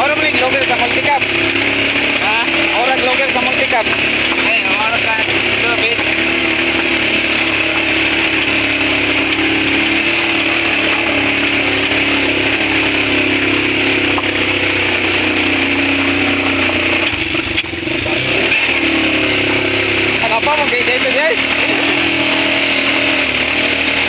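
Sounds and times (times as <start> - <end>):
small motorcycle engine: 0.0 - 24.0.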